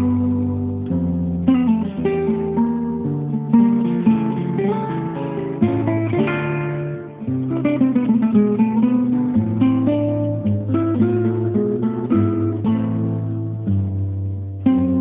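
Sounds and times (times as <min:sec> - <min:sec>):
acoustic guitar picked and strummed: 0:00.0 - 0:15.0.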